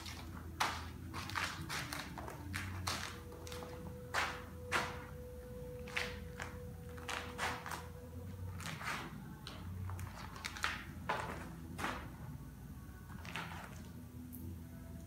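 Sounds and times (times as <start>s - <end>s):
footsteps: 0.0s - 12.3s.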